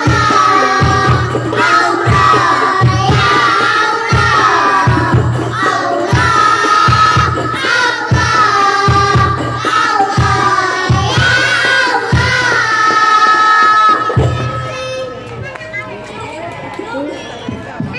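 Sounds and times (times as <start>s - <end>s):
hand-struck frame drums: 0.0s - 14.8s
children singing together: 0.0s - 15.1s
large bass drum strokes: 0.0s - 15.2s.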